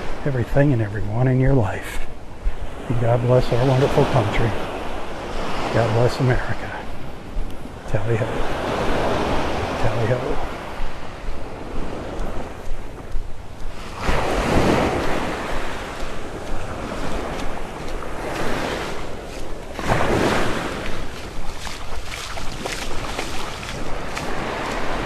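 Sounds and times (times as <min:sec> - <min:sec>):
surf washing onto beach: 0:00.0 - 0:25.0
wind buffeting microphone: 0:00.0 - 0:25.0.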